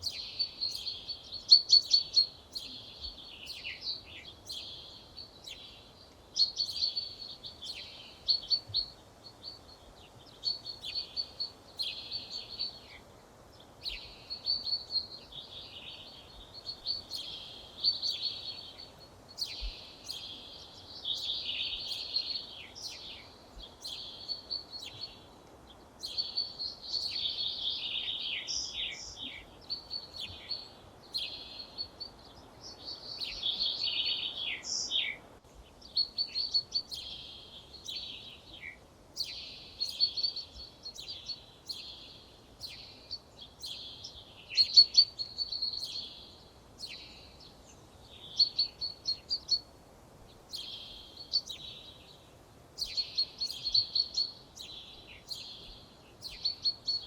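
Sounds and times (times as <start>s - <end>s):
faint background hiss: 0.0s - 57.0s.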